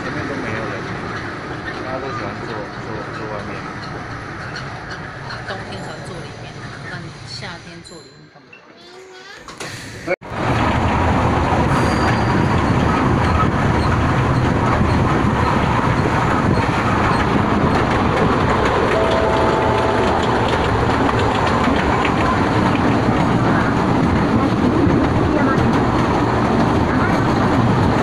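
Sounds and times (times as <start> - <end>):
train wheels rumbling and rattling: 0.0 - 7.9, 9.5 - 28.0.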